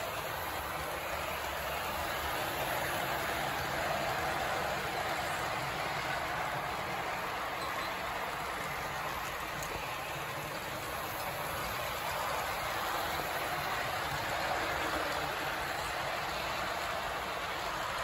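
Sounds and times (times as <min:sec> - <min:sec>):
model train whirring on rails: 0:00.0 - 0:18.0.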